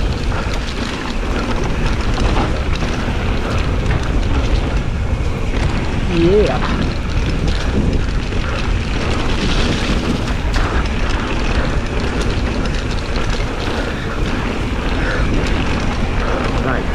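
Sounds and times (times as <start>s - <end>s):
bike rattles and clicks: 0.0s - 16.9s
bike tyre noise: 0.0s - 16.9s
wind rumble on microphone: 0.0s - 16.9s.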